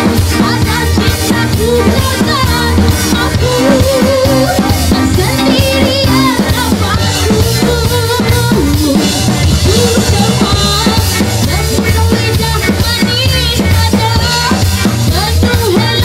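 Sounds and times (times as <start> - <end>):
drum and cymbal strikes: 0.0 - 16.0
live band playing: 0.0 - 16.0.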